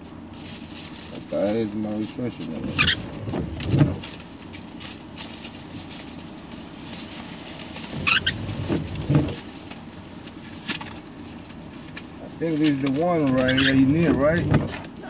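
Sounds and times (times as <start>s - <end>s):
vehicle hum: 0.0s - 15.0s
papers rustling: 0.3s - 15.0s.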